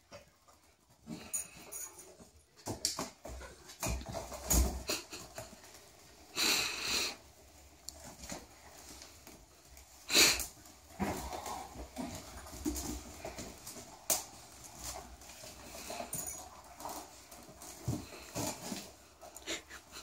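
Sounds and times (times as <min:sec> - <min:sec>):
dog snuffling in wicker basket: 0:03.4 - 0:20.0.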